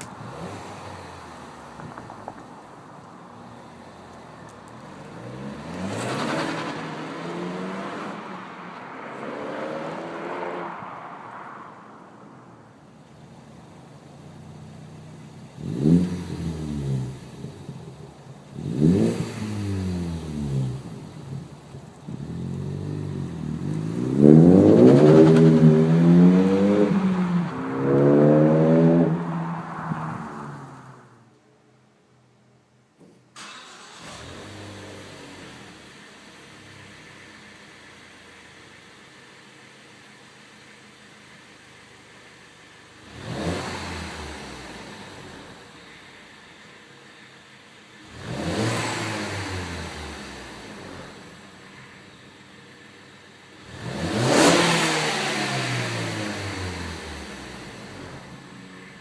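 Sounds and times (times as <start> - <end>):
car engine revving: 0.0 - 2.8, 3.4 - 31.3, 33.4 - 38.6, 42.9 - 46.4, 47.9 - 52.2, 53.5 - 59.0.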